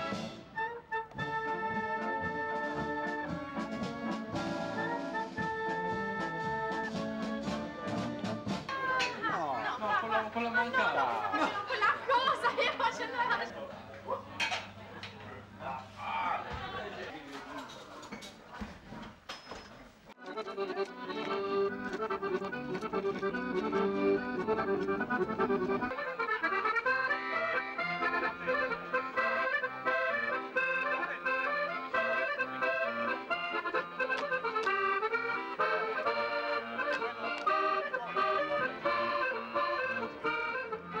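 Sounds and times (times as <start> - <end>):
accordion folk dance tune: 0.0 - 13.5, 20.1 - 41.0.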